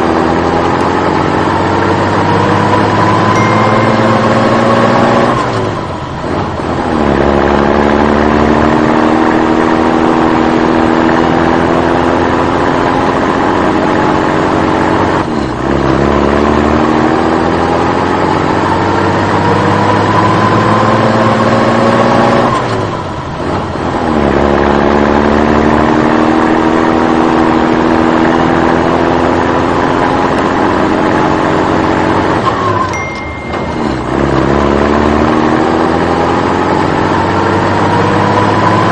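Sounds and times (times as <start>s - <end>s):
vehicle engine rising in pitch: 0.0s - 22.6s, 24.0s - 38.9s.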